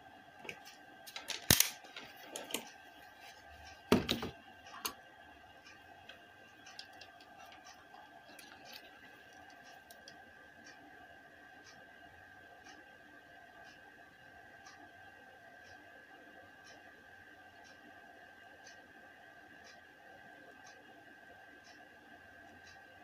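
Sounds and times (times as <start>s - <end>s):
faint steady whine: 0.0s - 23.0s.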